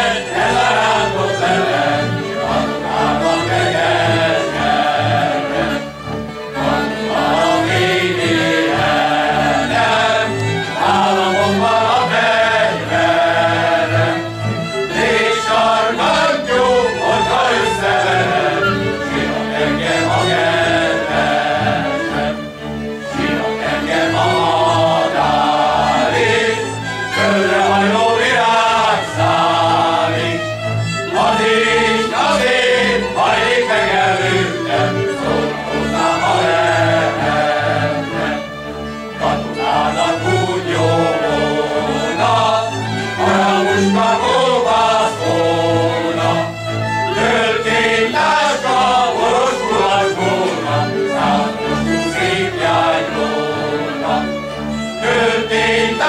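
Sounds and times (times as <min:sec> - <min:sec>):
folk string band: 0:00.0 - 0:56.0
men's choir singing: 0:00.0 - 0:56.0.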